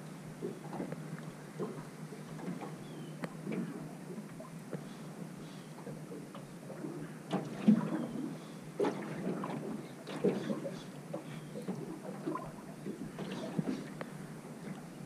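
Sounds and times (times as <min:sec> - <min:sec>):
water lapping at boat hull: 0:00.0 - 0:15.0.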